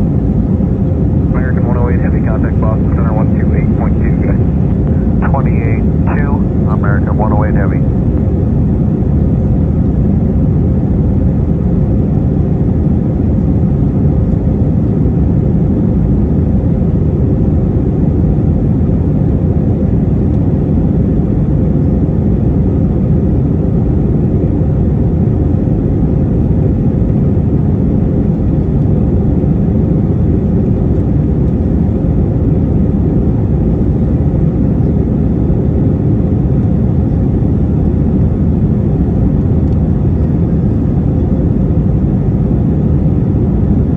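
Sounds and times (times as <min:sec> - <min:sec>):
faint steady hum: 0:00.0 - 0:43.9
jet engines in flight: 0:00.0 - 0:43.9.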